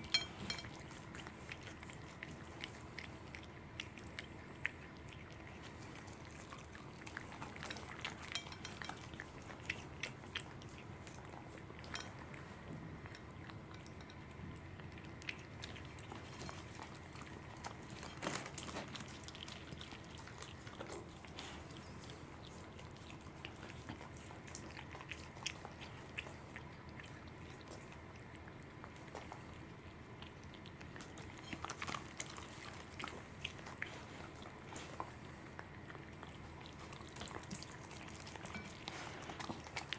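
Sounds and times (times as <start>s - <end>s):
animals chewing and biting: 0.0s - 39.9s.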